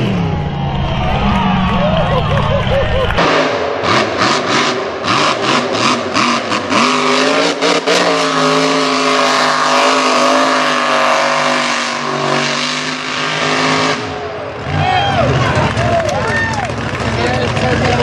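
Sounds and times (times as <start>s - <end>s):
truck engine revving at full throttle: 0.0s - 18.0s.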